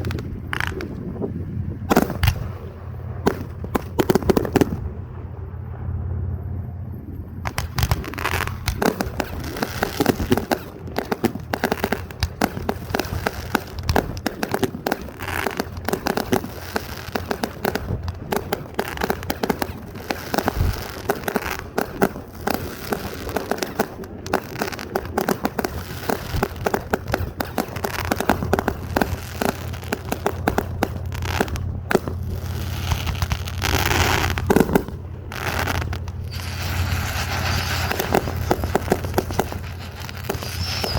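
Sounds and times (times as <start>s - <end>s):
fireworks crackling and popping: 0.0s - 5.0s, 7.4s - 40.9s.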